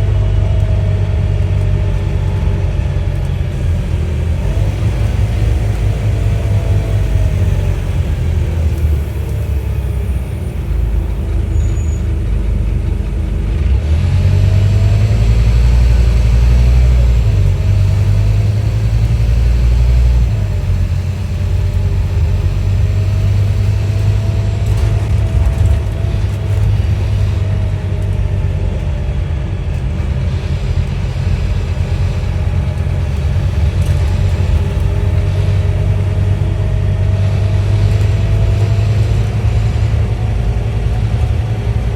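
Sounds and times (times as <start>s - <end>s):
bus diesel engine rumbling: 0.0s - 41.9s.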